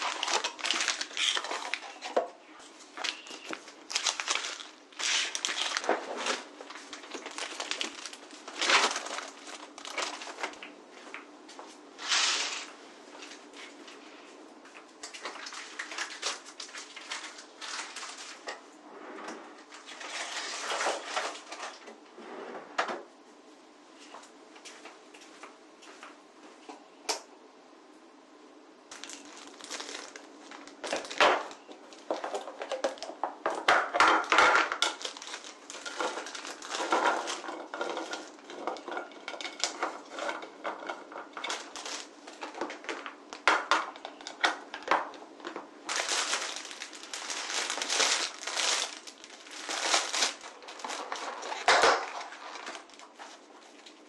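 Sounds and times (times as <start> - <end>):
rustling and crinkling: 0.0 - 22.8, 28.9 - 54.0.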